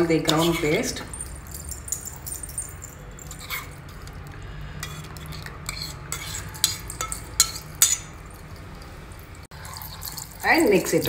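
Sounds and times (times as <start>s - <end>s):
metal spoon scraping steel bowl: 0.2s - 8.4s, 9.5s - 11.0s.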